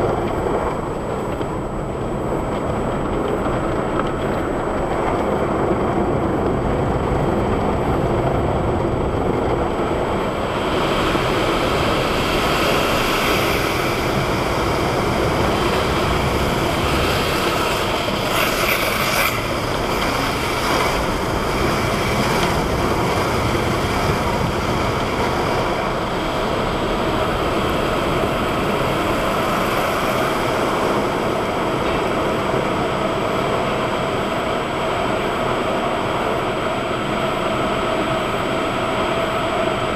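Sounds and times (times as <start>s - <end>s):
car wash machinery rumble: 0.0s - 39.9s.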